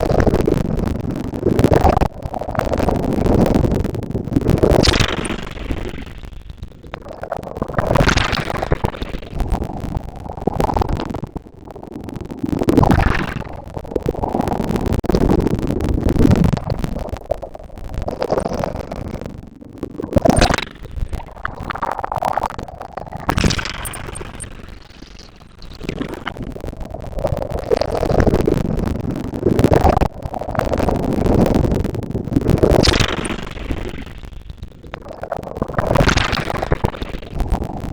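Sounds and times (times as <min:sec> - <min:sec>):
constant low rumble: 0:00.0 - 0:37.9.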